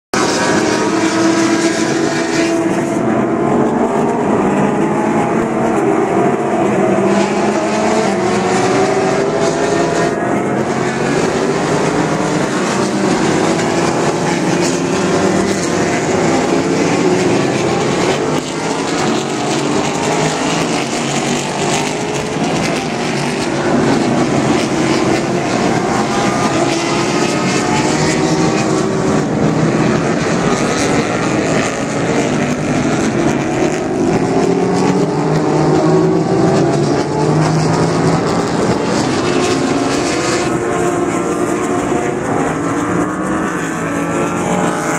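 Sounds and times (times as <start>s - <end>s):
race car engines roaring: 0.1s - 44.9s.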